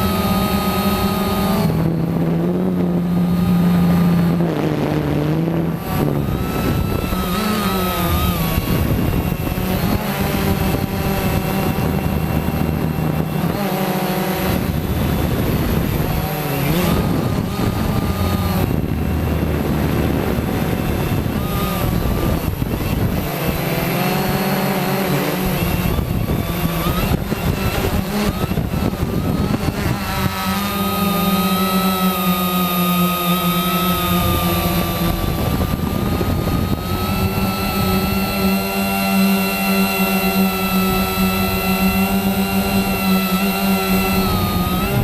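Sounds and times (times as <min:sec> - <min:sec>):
drone motors and propellers whining: 0:00.0 - 0:45.0.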